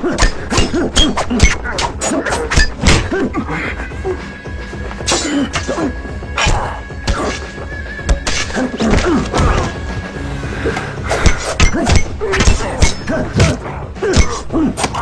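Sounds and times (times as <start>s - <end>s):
fighters grunting and shouting: 0.0s - 9.9s, 10.7s - 15.0s.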